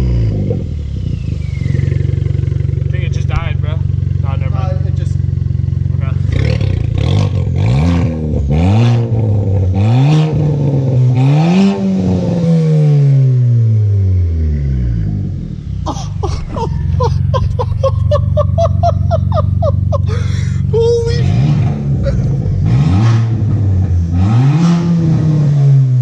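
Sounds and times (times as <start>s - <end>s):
car engine revving and idling: 0.0s - 26.0s.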